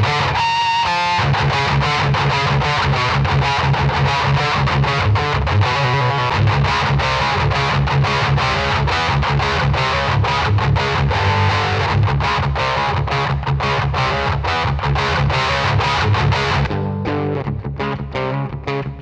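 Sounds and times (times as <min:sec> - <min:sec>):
distorted electric guitar riffing: 0:00.0 - 0:19.0.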